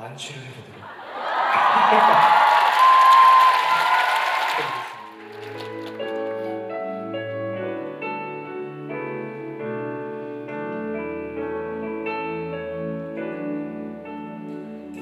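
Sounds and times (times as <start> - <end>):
piano chords and melody: 2.2 - 15.0.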